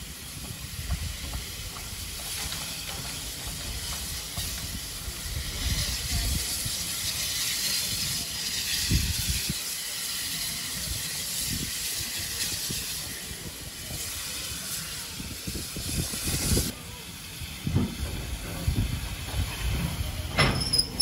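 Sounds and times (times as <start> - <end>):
steam locomotive hissing steam: 0.0 - 21.0.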